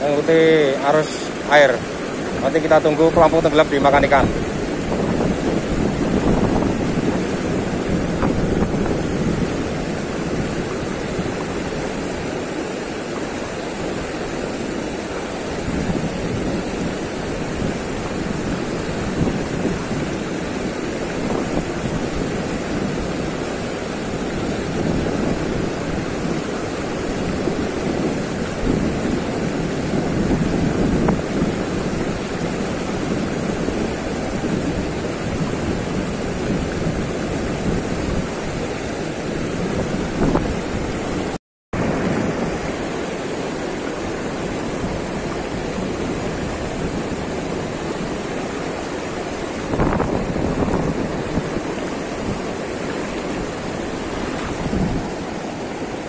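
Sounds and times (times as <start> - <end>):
river rushing and roaring: 0.0 - 56.0
wind on microphone: 0.0 - 56.0.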